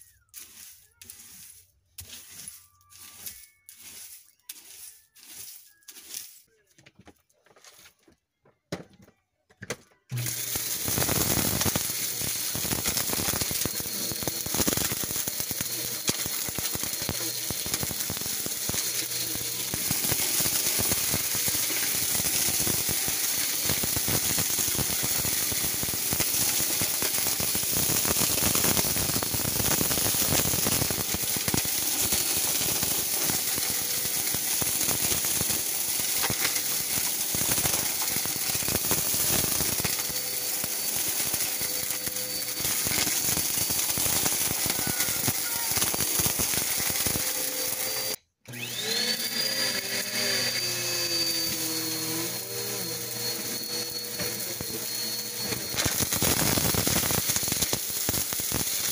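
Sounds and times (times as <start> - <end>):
glitter rattling in vacuum: 0.0 - 6.5, 10.1 - 48.2, 49.4 - 58.9
vacuum cleaner running: 10.1 - 58.9.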